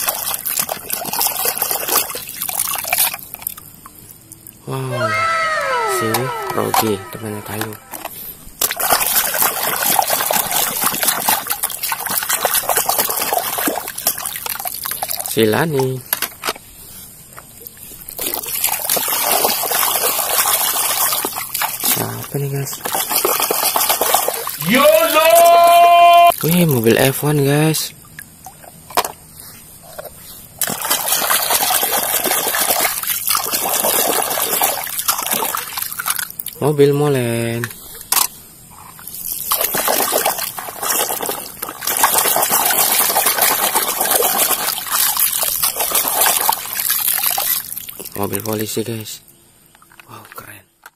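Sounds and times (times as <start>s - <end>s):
water splashing and sloshing: 0.0s - 4.6s, 5.7s - 24.7s, 27.9s - 36.7s, 37.8s - 48.6s.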